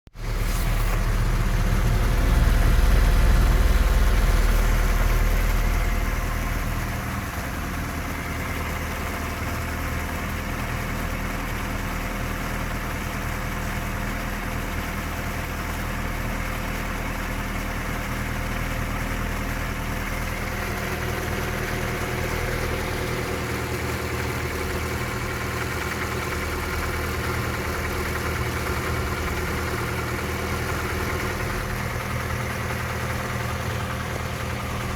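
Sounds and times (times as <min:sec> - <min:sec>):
car engine idling with knock: 0:00.2 - 0:34.9.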